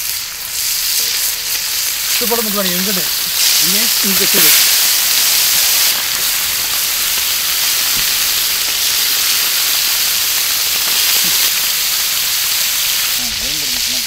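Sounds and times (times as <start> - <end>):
chicken wings sizzling in hot oil: 0.0 - 14.0.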